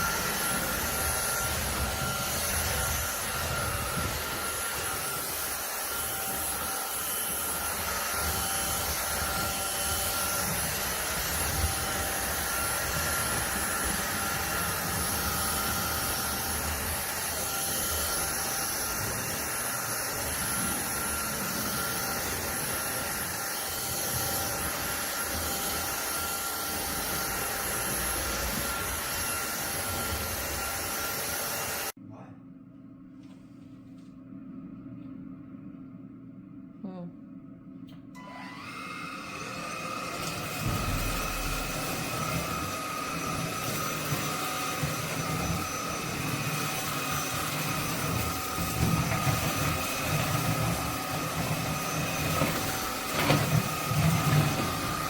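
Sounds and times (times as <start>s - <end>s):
high motor whine: 0.0s - 31.9s, 38.2s - 55.0s
vacuum cleaner air rushing: 0.0s - 32.0s, 38.2s - 55.0s.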